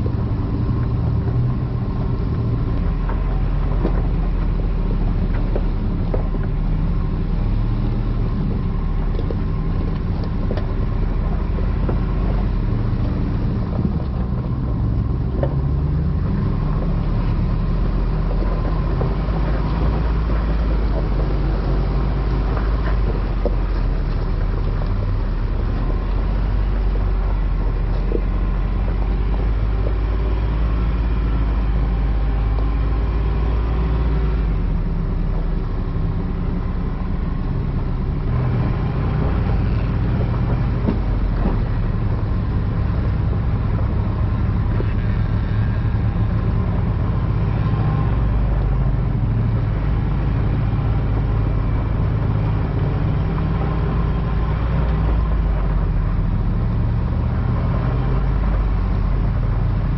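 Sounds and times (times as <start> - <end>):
rocks and gravel crunching: 0.0 - 59.9
truck engine running: 0.0 - 59.9.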